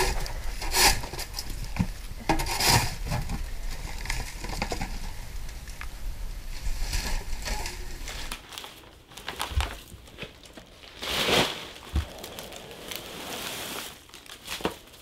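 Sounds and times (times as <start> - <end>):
plastic trash rustling and crinkling: 0.0 - 15.0.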